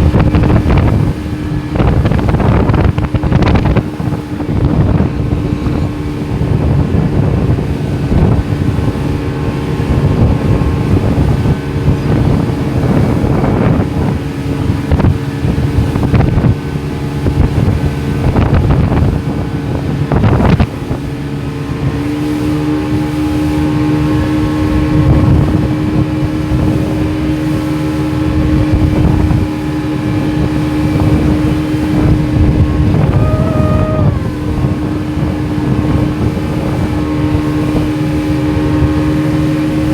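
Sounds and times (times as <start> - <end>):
motorboat engine running: 0.0 - 39.9
wind buffeting microphone: 0.0 - 39.9.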